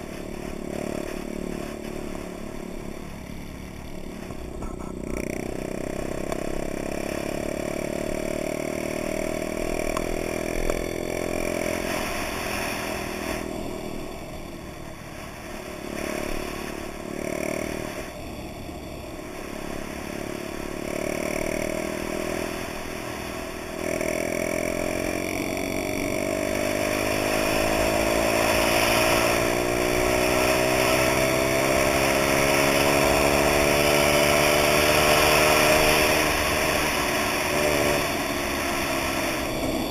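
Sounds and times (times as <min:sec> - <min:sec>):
minibike engine accelerating: 0:00.0 - 0:39.9.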